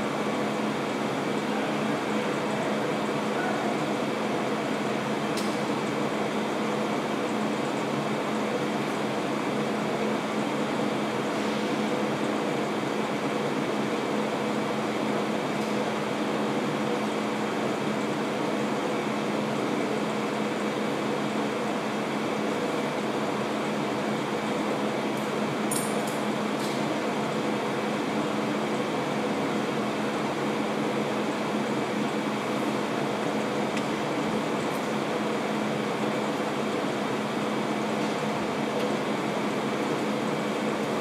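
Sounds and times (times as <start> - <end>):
air conditioning hum and hiss: 0.0 - 41.0.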